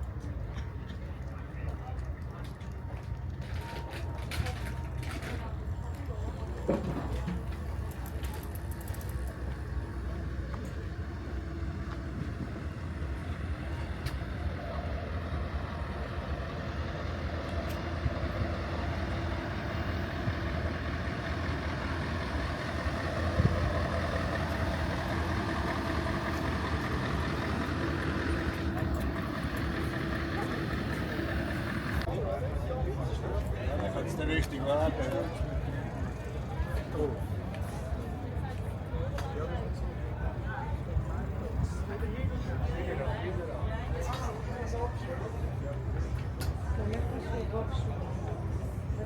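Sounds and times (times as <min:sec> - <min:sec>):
diesel truck engine running: 0:00.0 - 0:49.0
faint murmuring voices: 0:00.0 - 0:49.0.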